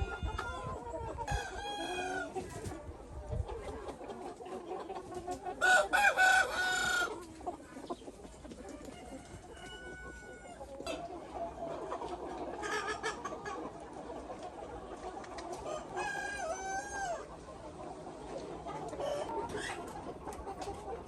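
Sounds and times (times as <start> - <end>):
chickens clucking: 0.0 - 21.0
drawn-out chicken calls: 0.0 - 21.0.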